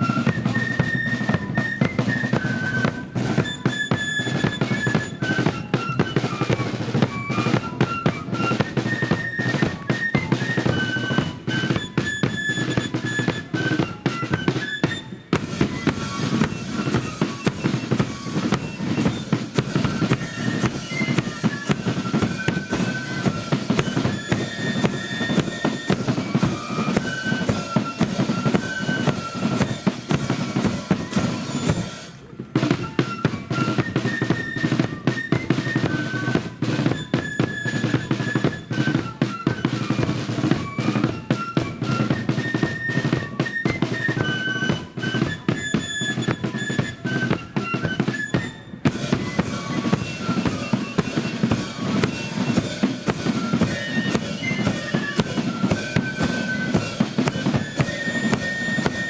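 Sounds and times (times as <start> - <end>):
flute band melody: 0.0 - 59.0
snare and bass drums: 0.0 - 59.0.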